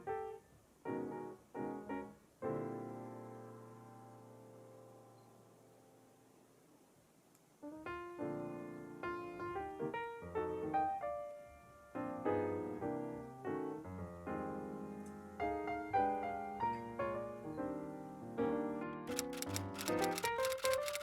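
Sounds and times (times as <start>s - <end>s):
gentle piano melody: 0.0s - 6.0s, 7.6s - 21.0s.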